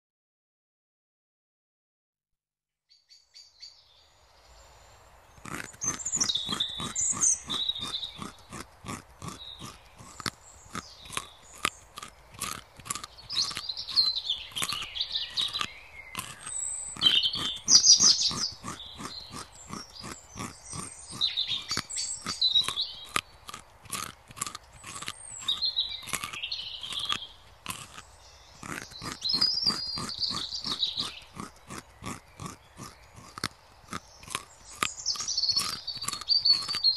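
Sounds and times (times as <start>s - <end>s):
small birds chirping: 2.9s - 36.9s
rabbit chewing crisp crunches: 5.3s - 36.9s.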